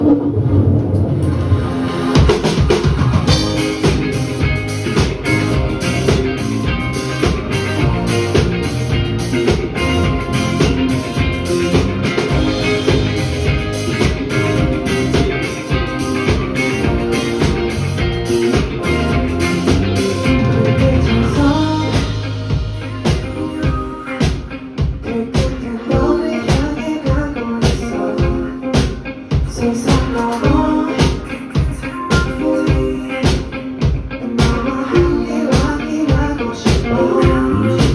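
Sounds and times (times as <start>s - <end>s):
guitar: 0.0s - 37.9s
live rock band playing: 1.9s - 37.9s
driving drum beat: 2.1s - 37.9s.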